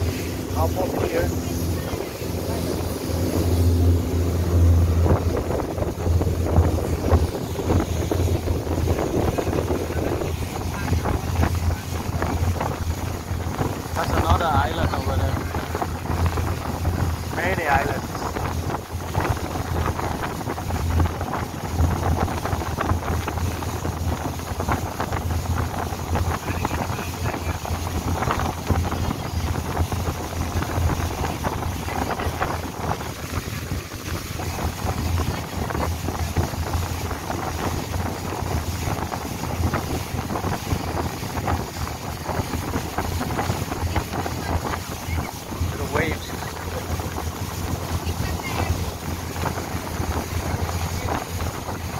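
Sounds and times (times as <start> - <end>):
boat engine droning: 0.0 - 51.9
wind buffeting microphone: 0.0 - 51.9.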